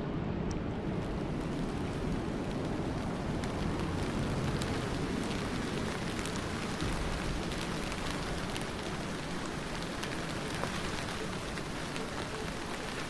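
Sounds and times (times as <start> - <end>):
steady rain hissing: 0.7 - 13.0
raindrops pattering on a surface: 0.8 - 13.0.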